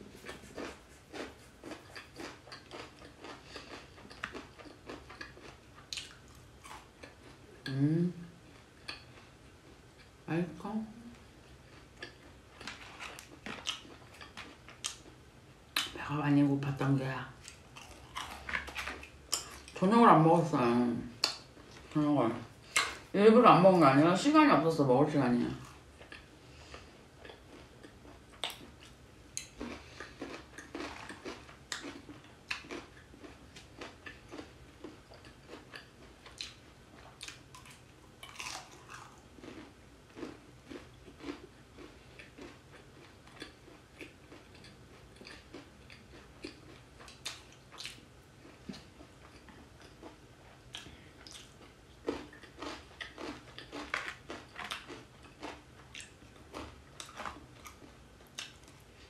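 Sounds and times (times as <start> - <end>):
chewing crispy fried chicken: 0.2 - 7.8, 11.2 - 23.1, 25.1 - 59.0.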